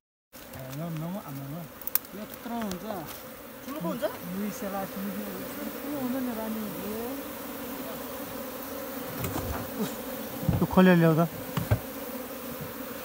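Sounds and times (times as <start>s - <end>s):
bees buzzing: 0.4s - 13.0s
bees flying close past: 0.4s - 13.0s.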